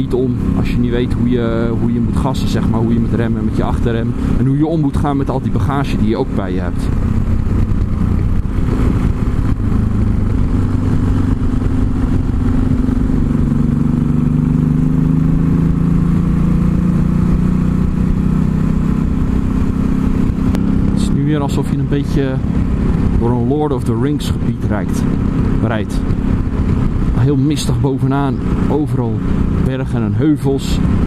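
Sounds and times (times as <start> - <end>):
motorcycle engine running: 0.0 - 31.0
wind rushing over microphone: 0.0 - 31.0.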